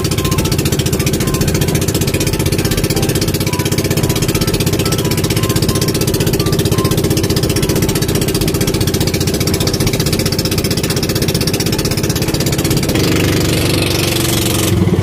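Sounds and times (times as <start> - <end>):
boat engine chugging: 0.0 - 15.0.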